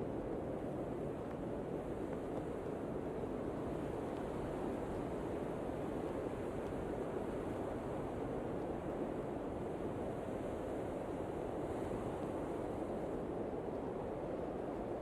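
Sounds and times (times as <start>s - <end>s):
snowstorm wind blowing: 0.0s - 15.0s.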